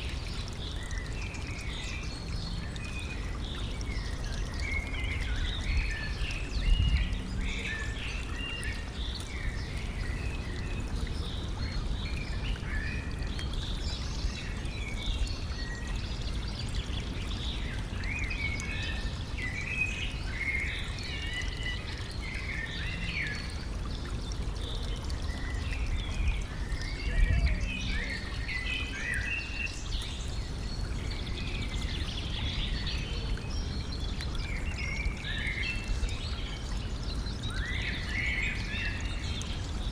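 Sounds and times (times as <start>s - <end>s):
songbirds chirping: 0.0s - 39.9s
stream water trickling: 0.0s - 39.9s.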